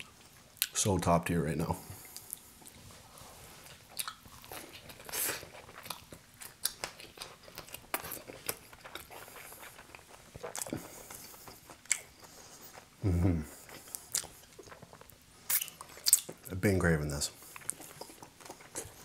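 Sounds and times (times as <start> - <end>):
person chewing: 0.0 - 0.8, 3.5 - 16.5, 17.4 - 19.0.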